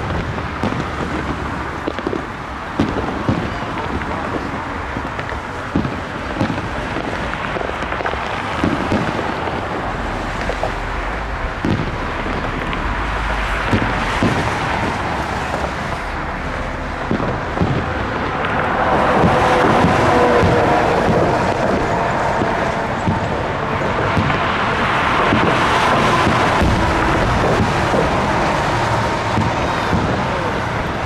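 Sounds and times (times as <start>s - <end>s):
fireworks booming: 0.0s - 31.0s
wind on microphone: 0.0s - 31.0s.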